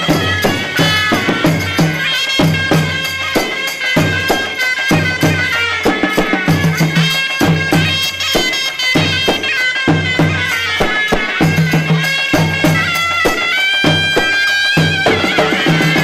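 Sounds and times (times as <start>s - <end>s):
shawm playing ornamented melody: 0.0s - 16.0s
steady drum beat: 0.0s - 16.0s.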